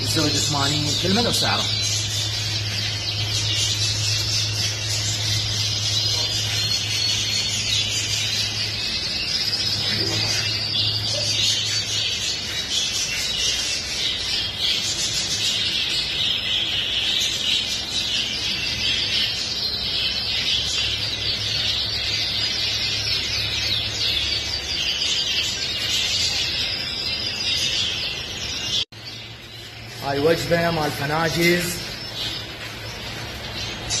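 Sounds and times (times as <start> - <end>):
canaries singing and chirping: 0.0 - 34.0.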